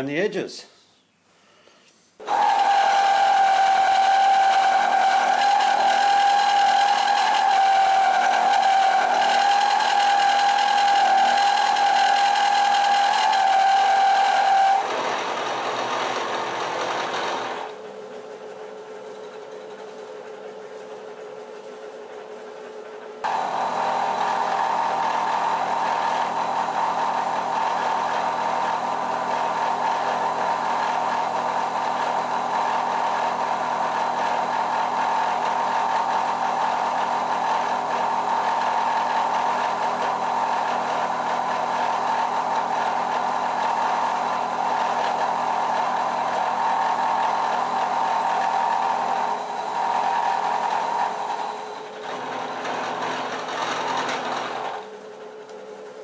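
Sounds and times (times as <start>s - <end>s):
milling machine cutting metal: 2.2s - 17.7s, 23.3s - 55.0s.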